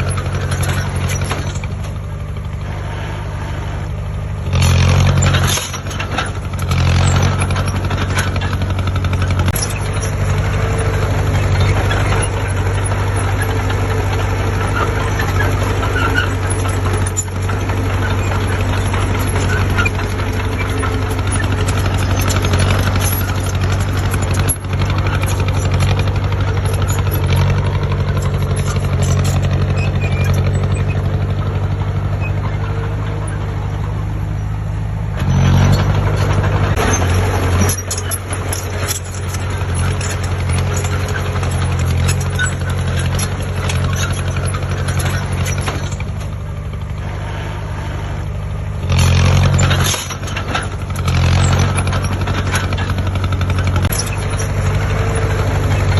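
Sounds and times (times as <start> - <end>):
heavy diesel engine revving: 0.0 - 55.9.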